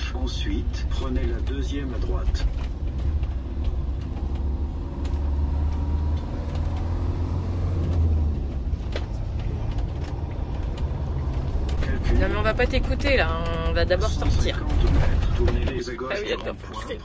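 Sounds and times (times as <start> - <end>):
motorhome engine and road noise: 0.0 - 17.0.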